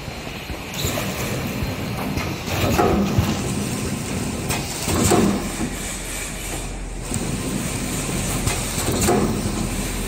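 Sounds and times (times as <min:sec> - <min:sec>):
packing machine running: 0:00.0 - 0:10.0
machine mechanical bursts: 0:00.7 - 0:10.0.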